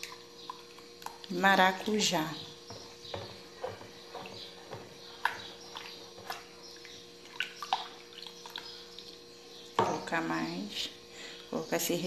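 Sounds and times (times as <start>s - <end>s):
liquid sloshing in a bowl: 0.0s - 10.1s
faint steady hum: 0.0s - 12.0s.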